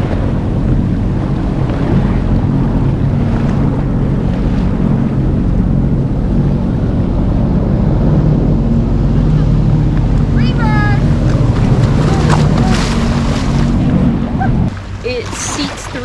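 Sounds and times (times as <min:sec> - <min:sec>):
jet ski engine running: 0:00.0 - 0:16.0
water splashing around hull: 0:00.0 - 0:16.0
wind buffeting microphone: 0:00.0 - 0:16.0.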